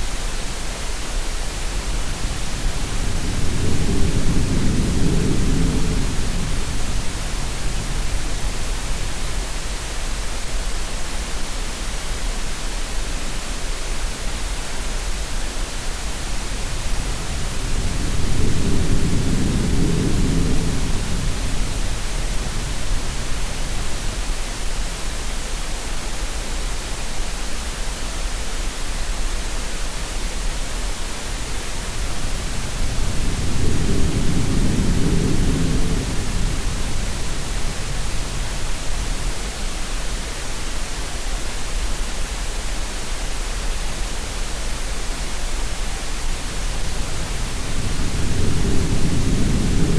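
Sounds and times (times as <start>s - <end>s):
steady noise hiss: 0.0s - 49.9s.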